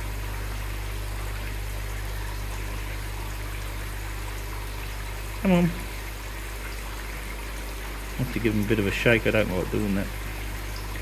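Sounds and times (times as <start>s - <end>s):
aquarium water trickling: 0.0s - 11.0s.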